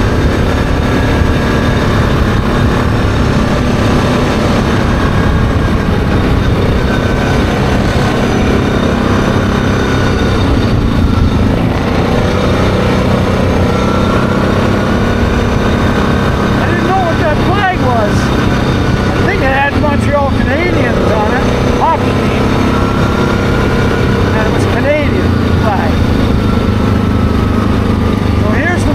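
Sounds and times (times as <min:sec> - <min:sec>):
atv engine running: 0:00.0 - 0:28.9
road and wind noise: 0:00.0 - 0:28.9.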